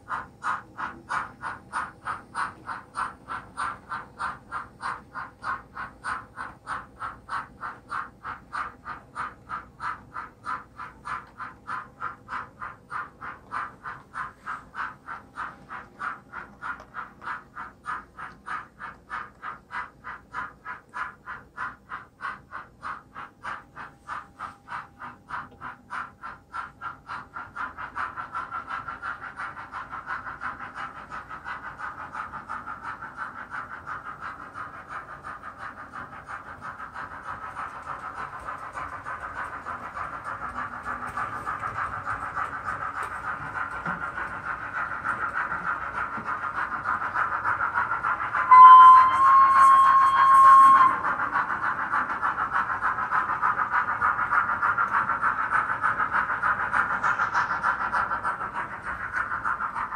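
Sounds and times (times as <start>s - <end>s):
model locomotive steam chuffs: 0.0s - 59.9s.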